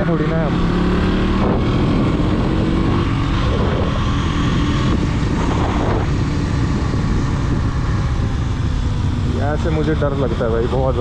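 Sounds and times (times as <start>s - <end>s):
motorcycle engine running: 0.0s - 11.0s
wind rush on microphone: 0.4s - 11.0s.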